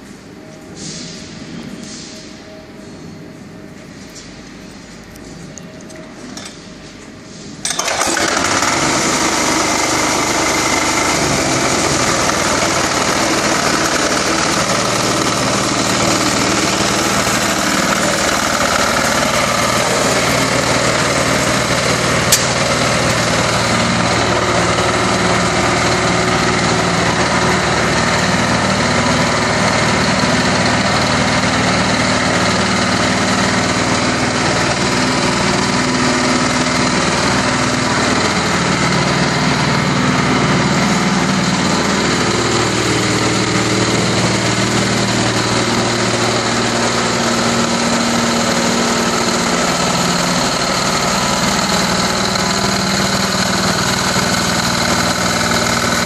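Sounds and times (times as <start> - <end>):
concrete mixer engine running: 7.6 - 56.0.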